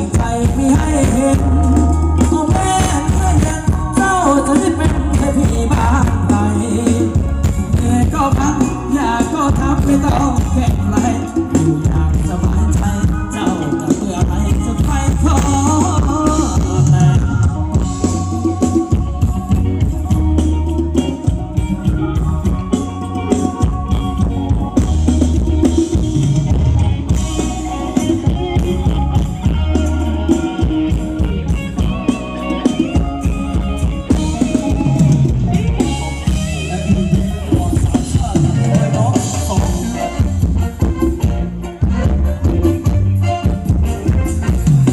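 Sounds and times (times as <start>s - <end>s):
band with heavy bass: 0.0s - 44.9s
drum kit beat: 0.0s - 44.9s
person singing: 0.0s - 44.9s.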